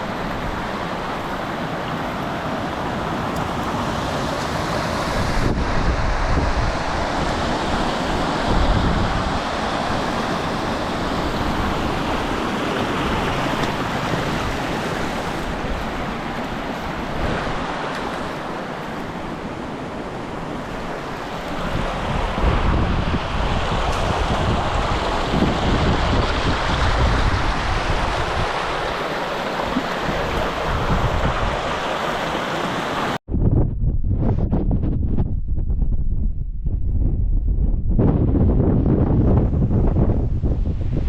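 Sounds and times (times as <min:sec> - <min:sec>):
strong wind buffeting microphone: 0:00.0 - 0:41.0.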